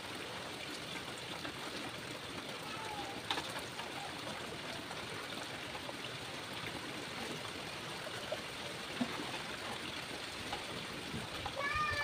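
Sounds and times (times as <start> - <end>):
faint water drips: 0.0 - 12.0.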